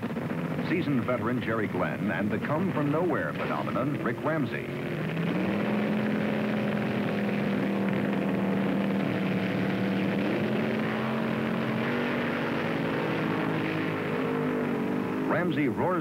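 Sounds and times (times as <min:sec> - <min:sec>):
dragster engines droning: 0:00.0 - 0:16.0.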